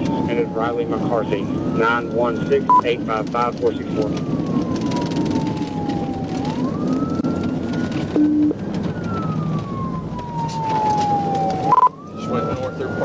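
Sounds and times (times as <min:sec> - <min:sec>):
police siren wailing: 0:00.0 - 0:13.0
road and engine noise: 0:00.0 - 0:13.0.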